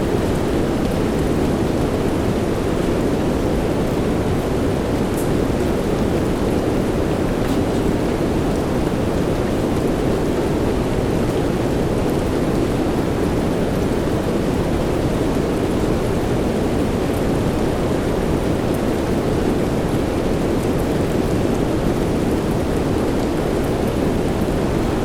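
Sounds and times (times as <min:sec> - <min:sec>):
soft rain hiss: 0:00.0 - 0:25.0.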